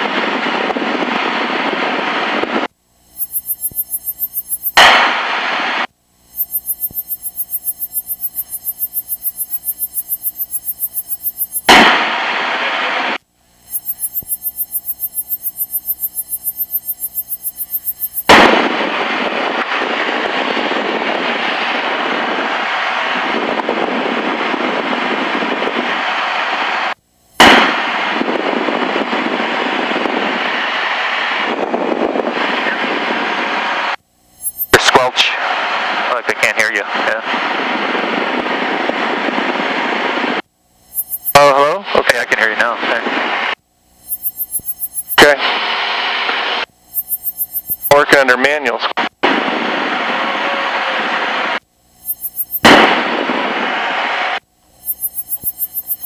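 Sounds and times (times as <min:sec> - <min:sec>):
radio static hiss: 0:00.0 - 0:56.0
rapid pulsing hum: 0:00.0 - 0:56.0.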